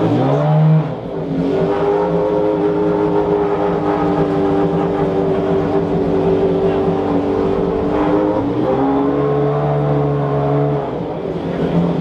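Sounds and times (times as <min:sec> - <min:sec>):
engine revving: 0:00.0 - 0:12.0
car engine idling: 0:00.8 - 0:12.0.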